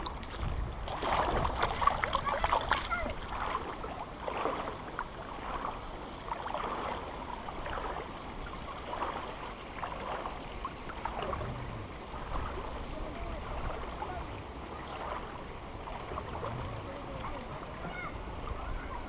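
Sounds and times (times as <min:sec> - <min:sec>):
low wind rumble: 0:00.0 - 0:19.0
river water lapping and gurgling: 0:00.0 - 0:19.0.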